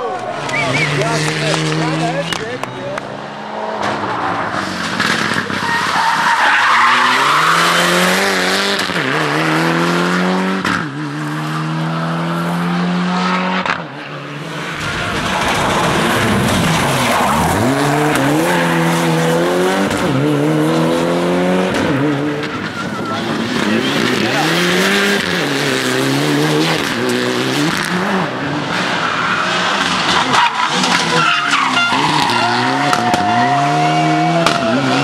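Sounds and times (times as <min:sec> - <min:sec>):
rally car engine revving: 0:00.0 - 0:35.0
another car engine revving: 0:00.4 - 0:35.0.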